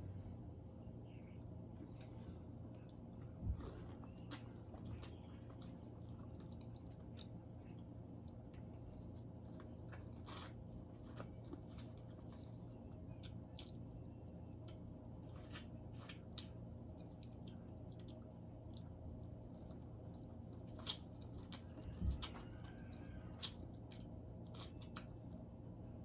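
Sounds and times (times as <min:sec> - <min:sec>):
steady low hum: 0:00.0 - 0:26.0
wet chewing and squishing: 0:02.7 - 0:25.4.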